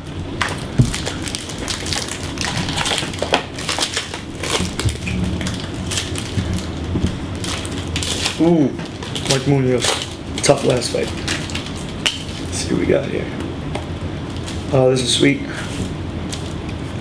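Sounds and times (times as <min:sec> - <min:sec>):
wrapper tearing and crinkling: 0:00.4 - 0:12.8, 0:14.2 - 0:14.8, 0:15.8 - 0:16.6.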